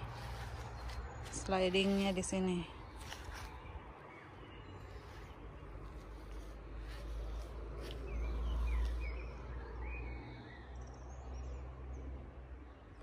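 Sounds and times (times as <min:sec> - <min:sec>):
bird chirps: 0:00.2 - 0:11.7.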